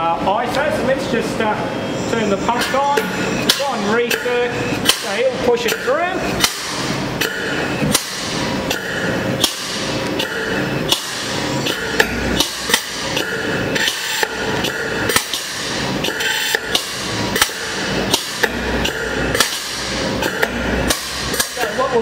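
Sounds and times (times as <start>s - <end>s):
pump air motor knocking: 3.0s - 21.9s.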